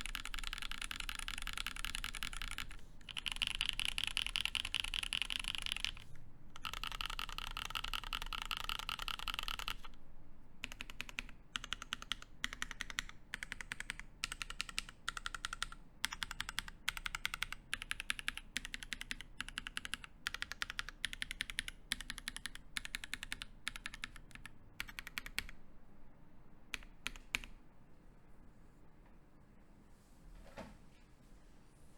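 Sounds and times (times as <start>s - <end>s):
mechanical keyboard typing: 0.0s - 10.0s, 10.6s - 25.6s, 26.7s - 27.6s.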